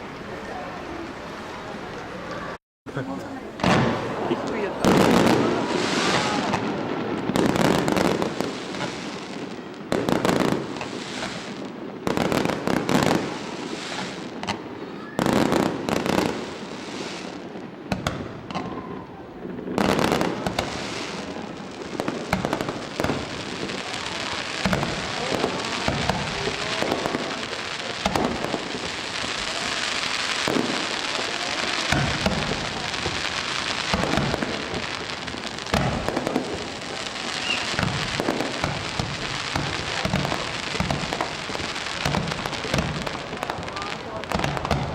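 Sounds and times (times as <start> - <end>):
fireworks booming: 1.5 - 44.9
crackle of small firework bursts: 3.5 - 44.9.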